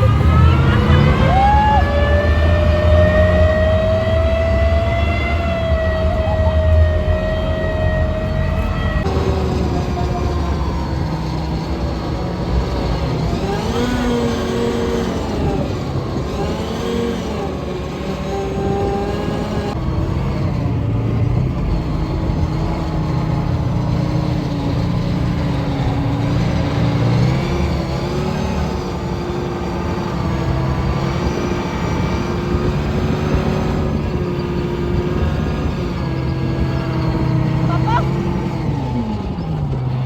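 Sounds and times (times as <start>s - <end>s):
heavy vehicle engine rumbling: 0.0s - 40.0s.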